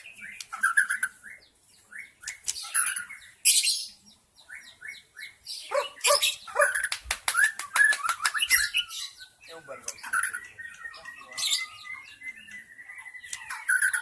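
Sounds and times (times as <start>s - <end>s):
clipped bird notes and clicks: 0.0s - 1.2s, 1.8s - 4.8s, 5.7s - 14.0s
bird singing whistled notes: 0.0s - 14.0s.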